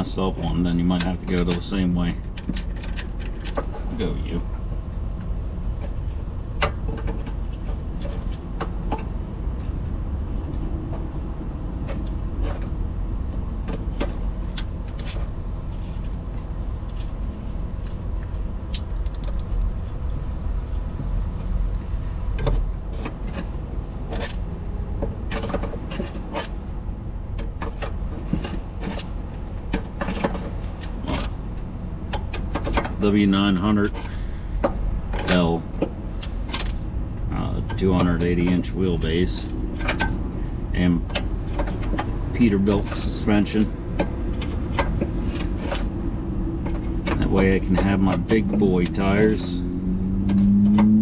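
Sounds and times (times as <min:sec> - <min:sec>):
low engine rumble: 0:00.0 - 0:51.0.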